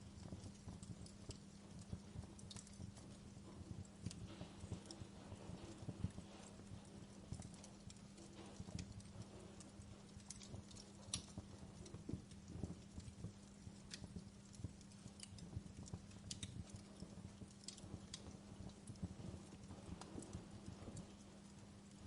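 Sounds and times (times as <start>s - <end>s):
log fire crackling: 0.0s - 22.0s
low steady hum: 0.0s - 22.0s.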